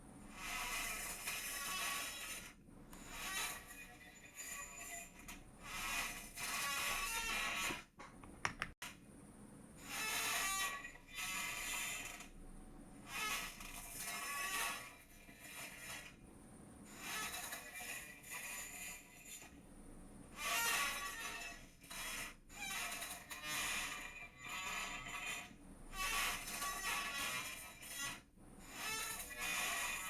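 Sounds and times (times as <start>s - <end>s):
chair creaking and squeaking: 0.3s - 8.8s, 9.8s - 12.4s, 13.1s - 16.2s, 16.9s - 19.6s, 20.4s - 30.0s.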